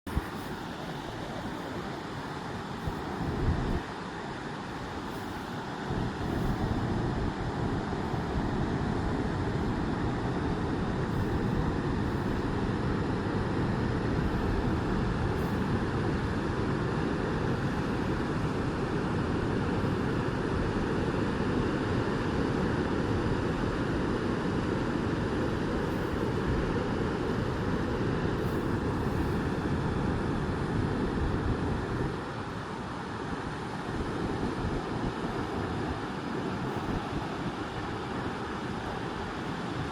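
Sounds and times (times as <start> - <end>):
ocean surf breaking: 0.1 - 39.9
wind rumble on microphone: 0.1 - 39.9.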